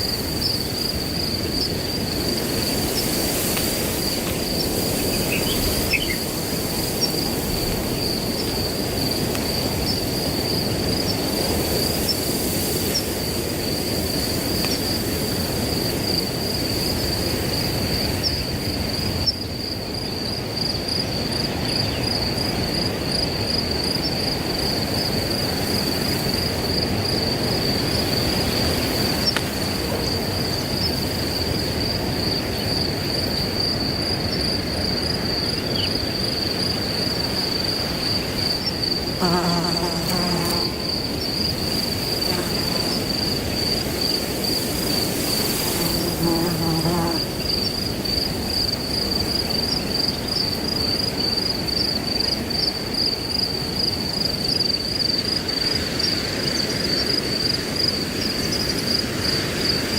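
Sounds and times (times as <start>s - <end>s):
crickets trilling: 0.0s - 59.9s
wind through grass: 0.0s - 59.9s.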